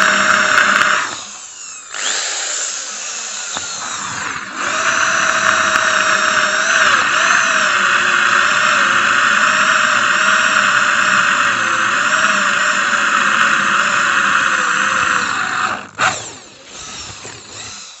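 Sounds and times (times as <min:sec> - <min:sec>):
electric drill squealing under load: 0:00.0 - 0:18.0.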